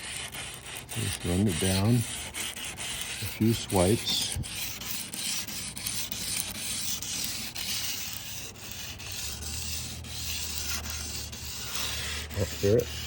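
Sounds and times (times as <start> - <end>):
emery cloth rasping on steel edge: 0.0 - 13.0.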